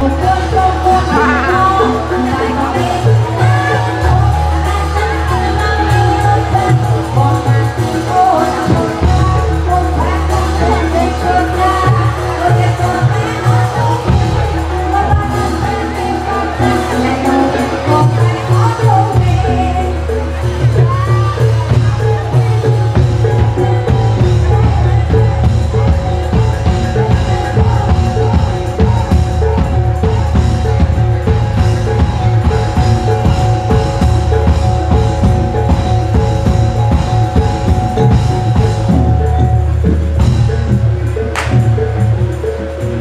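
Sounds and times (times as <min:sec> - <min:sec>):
drums beating: 0:00.0 - 0:43.0.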